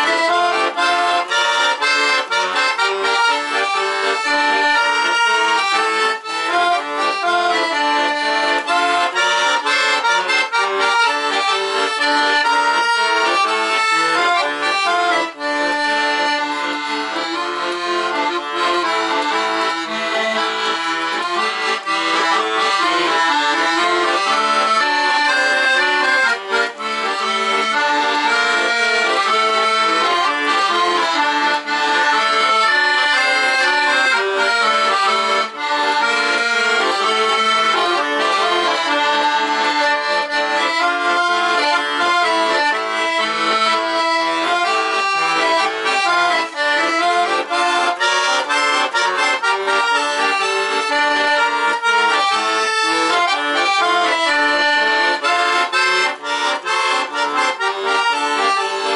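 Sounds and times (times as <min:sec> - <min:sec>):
accordion playing melody with chords: 0:00.0 - 0:58.9.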